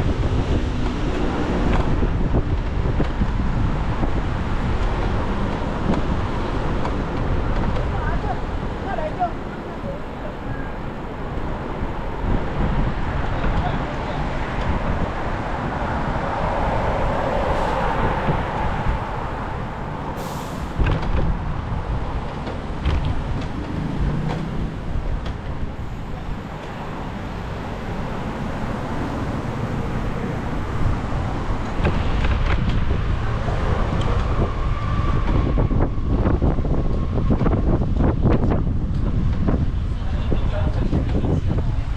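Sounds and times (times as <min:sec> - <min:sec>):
heavy vehicle: 0:00.0 - 0:41.9
road traffic rumble: 0:00.0 - 0:41.9.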